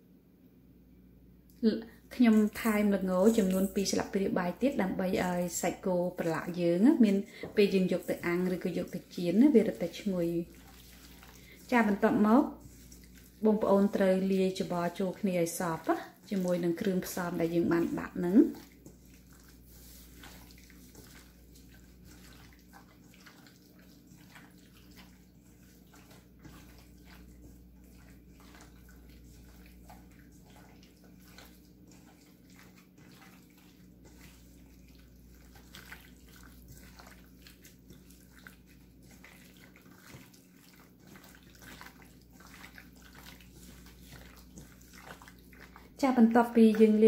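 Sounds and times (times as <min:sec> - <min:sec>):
wet squelches of kneading meat: 0:01.6 - 0:47.0.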